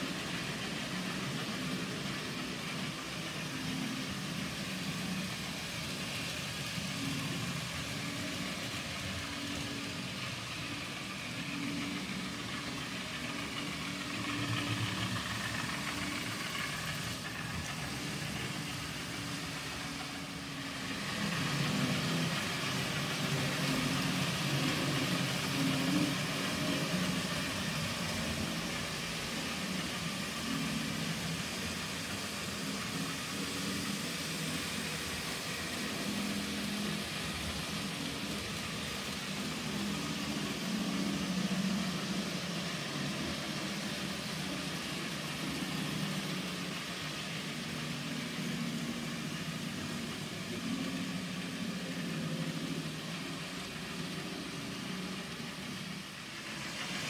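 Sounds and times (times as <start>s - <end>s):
model trains humming and rumbling: 0.0s - 57.0s.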